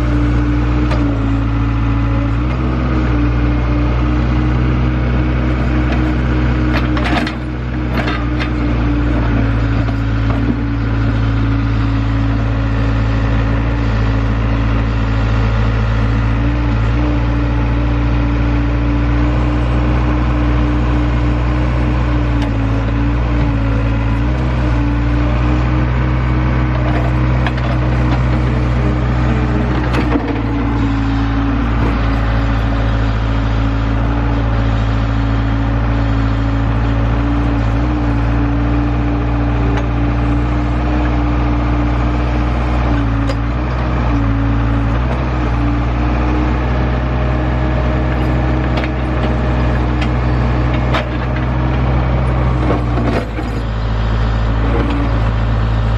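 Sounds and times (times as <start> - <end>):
heavy machinery engine running: 0.0 - 55.9.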